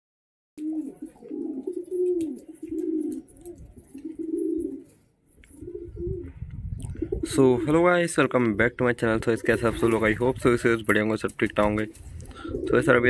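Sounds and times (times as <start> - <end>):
pigeons cooing: 0.6 - 10.9, 11.6 - 13.0.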